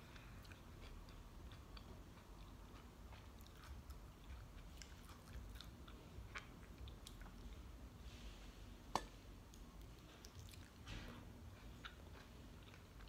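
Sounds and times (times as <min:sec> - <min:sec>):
chewing with soft mouth clicks: 0:00.0 - 0:07.7, 0:09.4 - 0:13.0.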